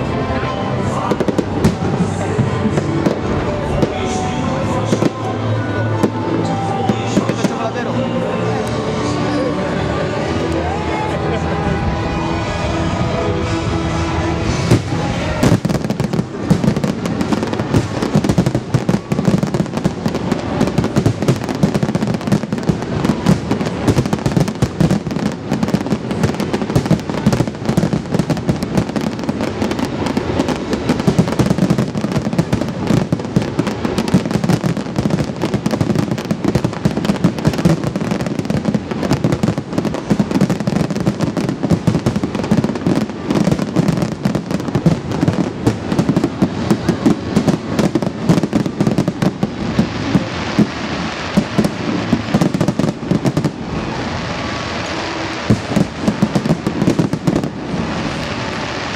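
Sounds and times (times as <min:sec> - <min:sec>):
fireworks booming and crackling: 0:00.0 - 0:58.9.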